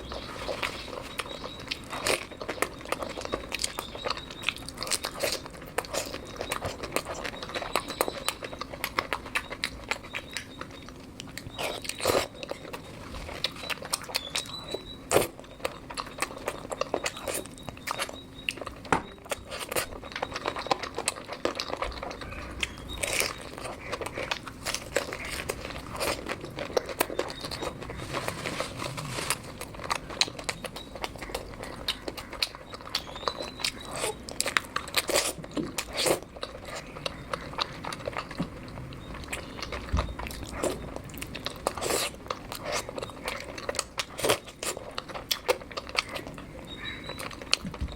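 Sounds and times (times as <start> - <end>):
biting crunching and wet chewing: 0.0 - 47.9.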